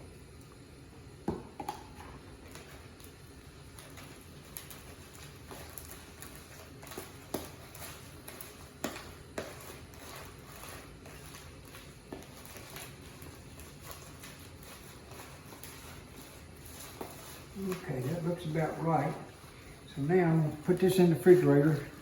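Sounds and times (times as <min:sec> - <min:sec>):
salad stirred in a bowl: 0:01.8 - 0:22.0.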